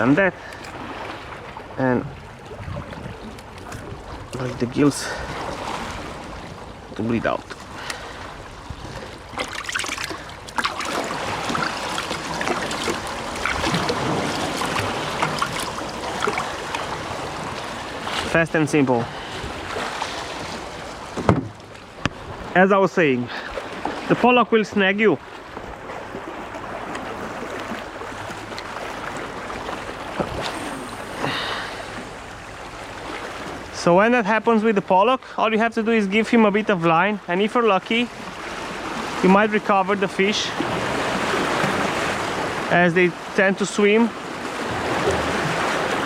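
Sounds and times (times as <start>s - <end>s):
water splashing and sloshing: 0.0s - 46.0s.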